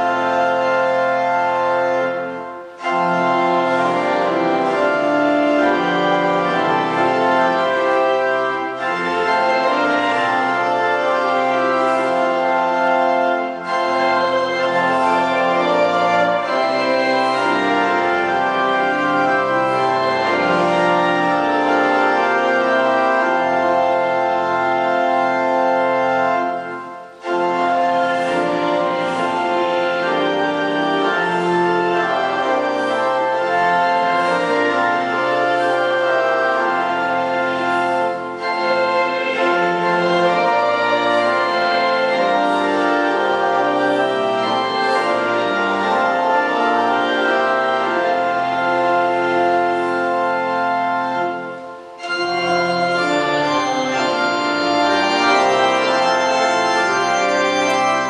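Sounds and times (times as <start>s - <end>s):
church organ chords: 0.0s - 58.0s.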